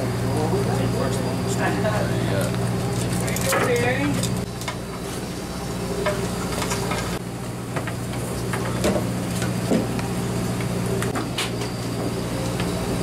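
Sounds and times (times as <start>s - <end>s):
boat machinery humming: 0.0s - 13.0s.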